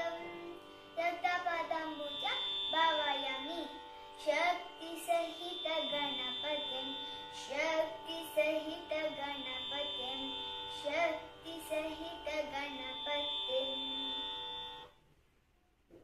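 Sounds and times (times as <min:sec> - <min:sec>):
steady drone: 0:00.0 - 0:14.9
girl singing devotional song: 0:00.0 - 0:15.0.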